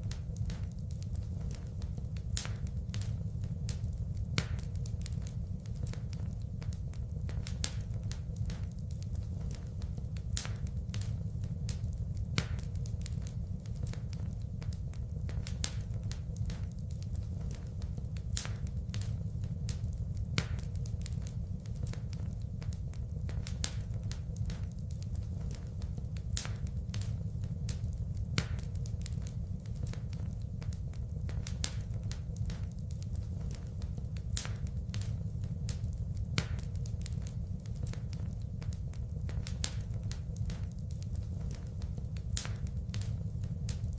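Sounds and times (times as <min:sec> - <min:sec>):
low rumble of flames: 0:00.0 - 0:43.9
wood fire pops and snaps: 0:00.0 - 0:43.9.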